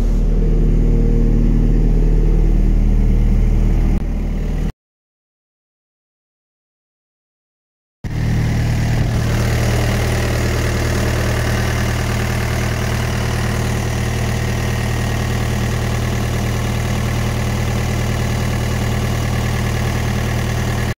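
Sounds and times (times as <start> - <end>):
refrigeration unit diesel engine: 0.0 - 4.7, 8.1 - 20.9.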